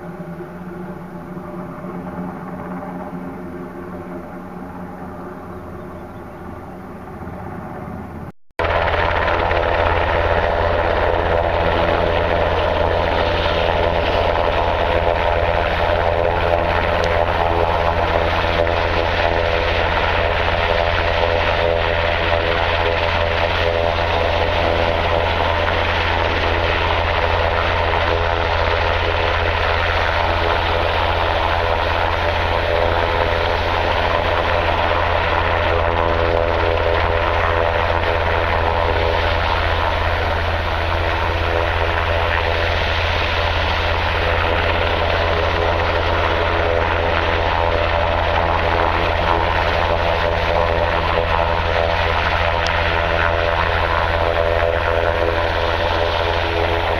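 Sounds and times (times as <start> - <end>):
helicopter rotor drone: 0.0 - 56.9.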